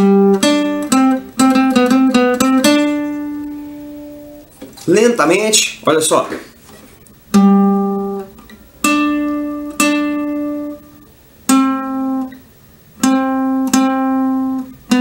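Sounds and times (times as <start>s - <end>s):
classical guitar plucked notes: 0.0s - 4.7s, 7.3s - 15.0s.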